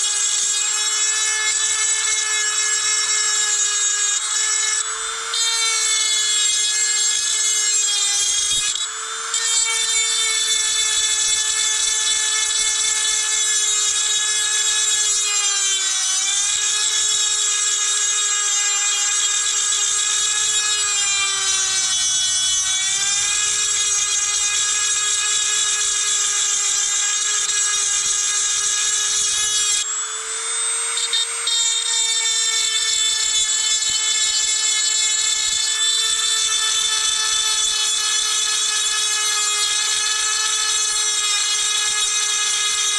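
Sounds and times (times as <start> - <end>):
rotary tool grinding metal: 0.0 - 42.9.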